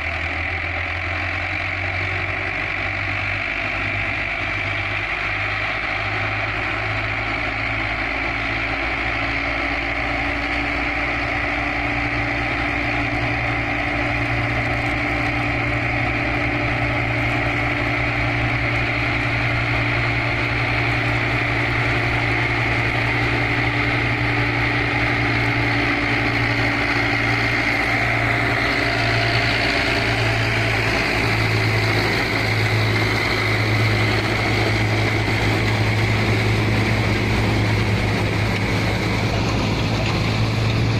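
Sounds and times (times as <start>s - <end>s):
tractor engine drone: 0.0s - 40.9s.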